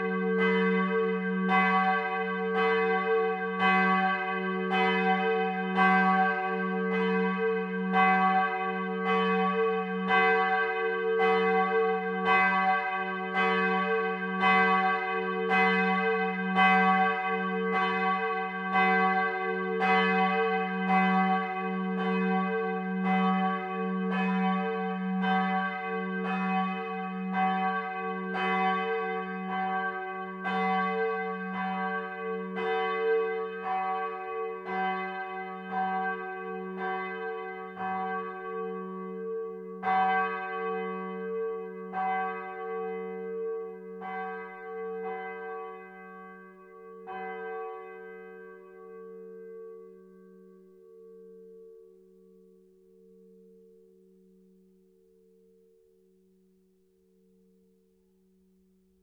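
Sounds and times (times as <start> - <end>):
church bell ringing: 0.0 - 54.3.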